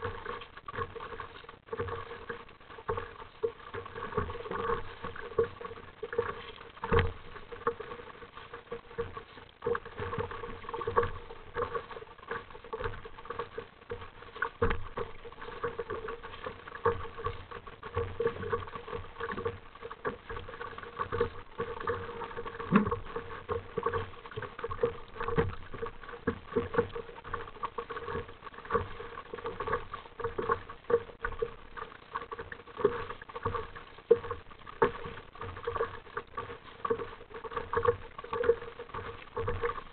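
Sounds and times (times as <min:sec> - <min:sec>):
water lapping against kayak hull: 0:00.0 - 0:39.9.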